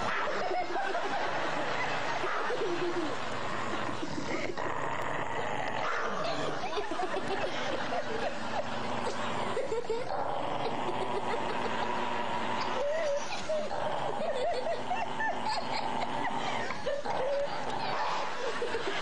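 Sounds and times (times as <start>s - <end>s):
people snickering and chuckling: 0.0s - 19.0s.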